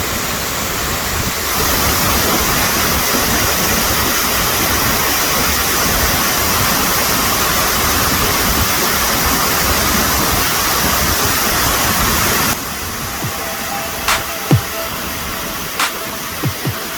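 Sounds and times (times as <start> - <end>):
waterfall rushing: 0.1 - 16.9.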